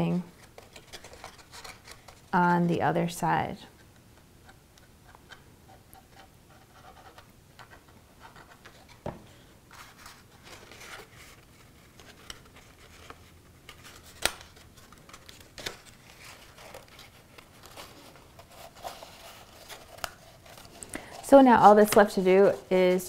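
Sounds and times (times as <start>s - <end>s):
cardstock rustling and scraping: 0.3s - 2.3s, 4.5s - 23.0s.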